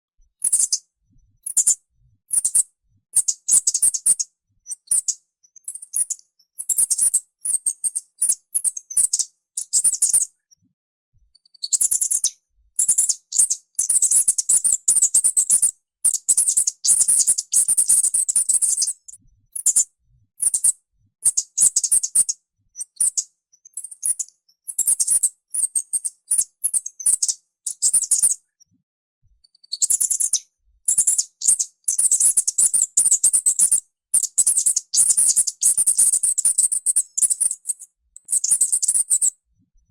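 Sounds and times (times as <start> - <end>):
mouse squeaking: 0.4 - 0.8, 1.4 - 10.3, 11.4 - 28.4, 29.4 - 39.4.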